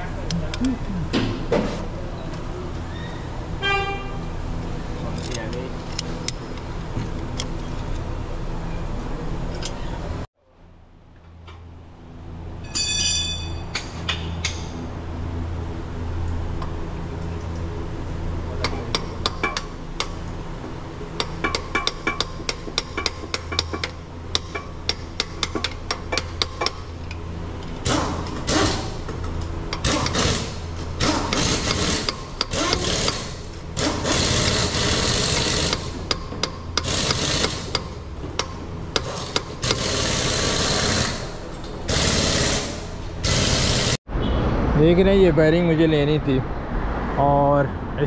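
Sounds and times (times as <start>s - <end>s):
low workshop hum: 0.0s - 44.0s.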